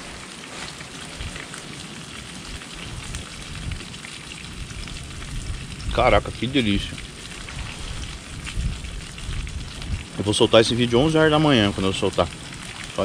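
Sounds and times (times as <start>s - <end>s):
wind on microphone: 2.4s - 13.0s.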